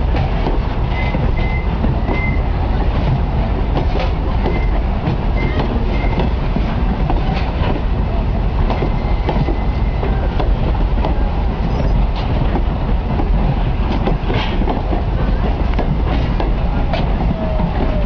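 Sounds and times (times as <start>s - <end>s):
train cars rumbling: 0.0s - 18.0s
wheels clicking over rail joints: 0.0s - 18.0s.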